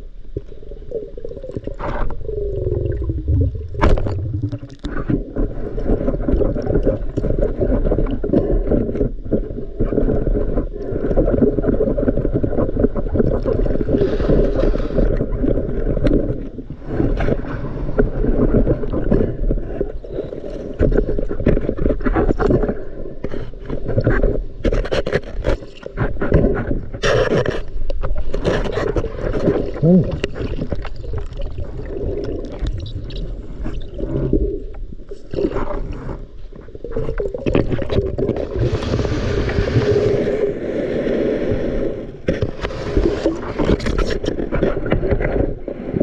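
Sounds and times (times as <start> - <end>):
muffled underwater rushing water: 0.0 - 46.0.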